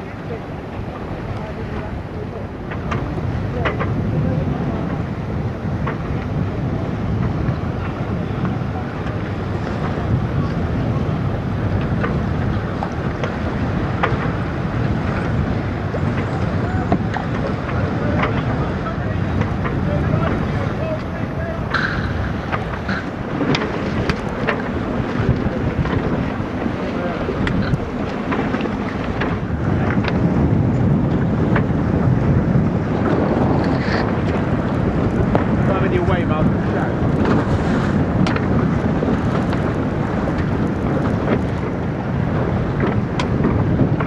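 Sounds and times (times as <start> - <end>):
wind rumbling on microphone: 0.0 - 44.0.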